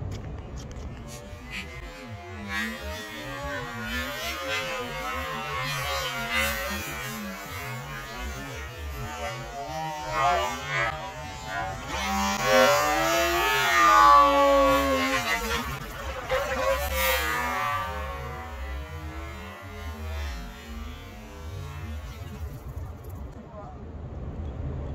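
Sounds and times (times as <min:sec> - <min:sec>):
model boat motor whining: 0:01.4 - 0:22.8.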